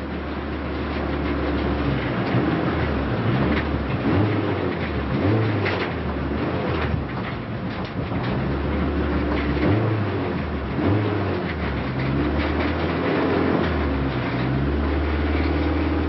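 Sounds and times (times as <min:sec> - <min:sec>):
race car engine revving: 0:00.0 - 0:16.0
road and cabin noise: 0:00.0 - 0:16.0.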